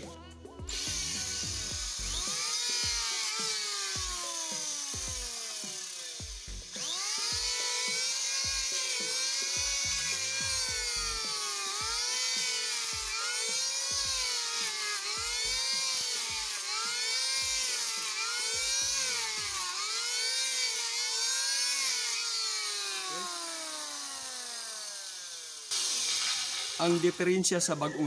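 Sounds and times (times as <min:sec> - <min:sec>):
motor spinning down: 0:00.0 - 0:28.0
electric planer cutting wood: 0:00.7 - 0:28.0.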